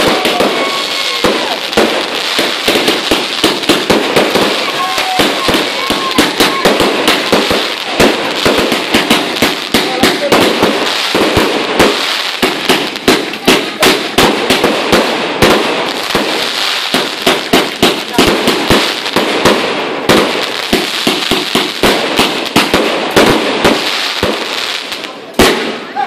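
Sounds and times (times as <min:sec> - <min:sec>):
firework battery firing bangs: 0:00.0 - 0:26.0
firework crackling: 0:00.0 - 0:26.0.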